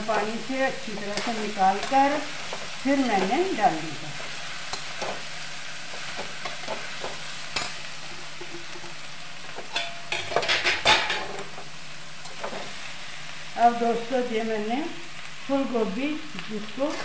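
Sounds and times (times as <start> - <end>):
vegetables sizzling in a wok: 0.0 - 17.0.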